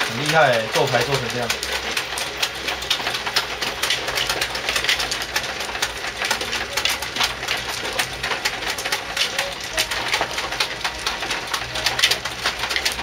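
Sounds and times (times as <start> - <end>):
mahjong tiles clacking: 0.0 - 13.0.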